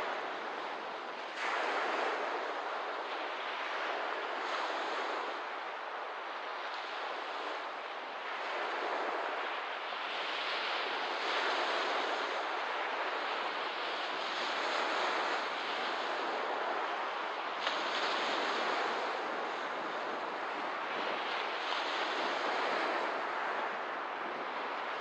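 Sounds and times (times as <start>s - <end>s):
small waves washing on shore: 0.0s - 25.0s.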